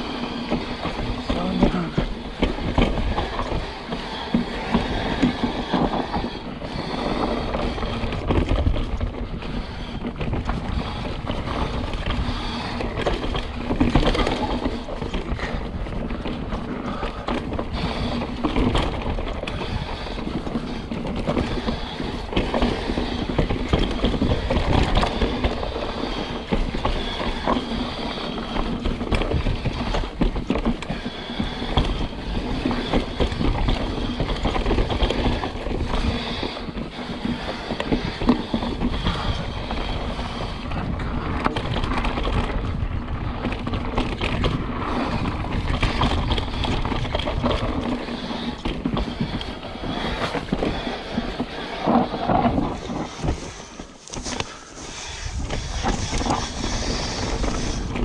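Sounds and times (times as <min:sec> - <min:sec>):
bike rattling and clattering: 0:00.0 - 0:58.0
tyres rumbling over dirt: 0:00.0 - 0:58.0.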